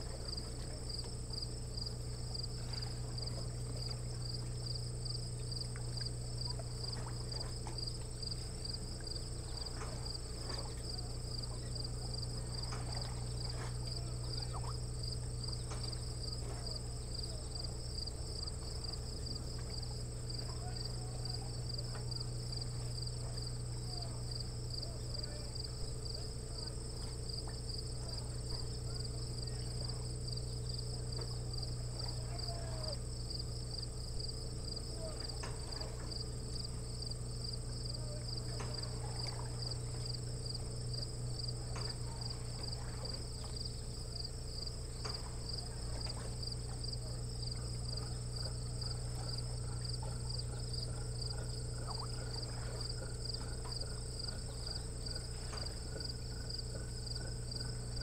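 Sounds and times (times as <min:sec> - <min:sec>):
faint chirps and ticks: 0:00.0 - 0:58.0
insects trilling: 0:00.0 - 0:58.0
low steady hum: 0:00.0 - 0:58.0.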